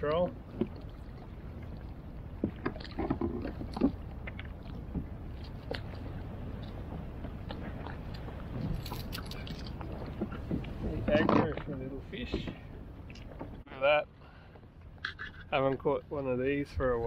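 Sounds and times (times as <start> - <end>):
water and wind wash: 0.0 - 17.0.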